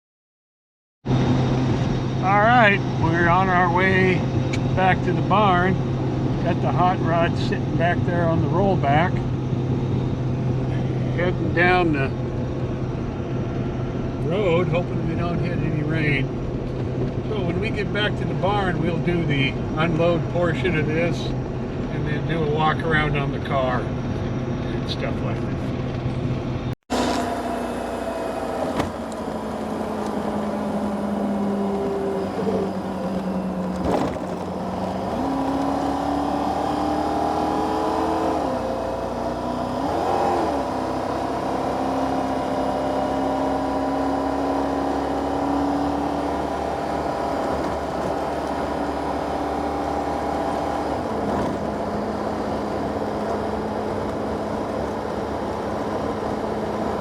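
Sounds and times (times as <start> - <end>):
truck engine drone: 1.0 - 57.0.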